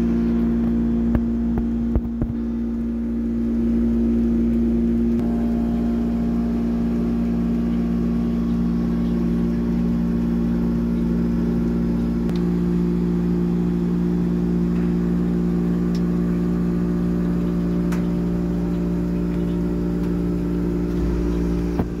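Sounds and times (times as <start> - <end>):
freezer compressor hum: 0.0 - 22.0.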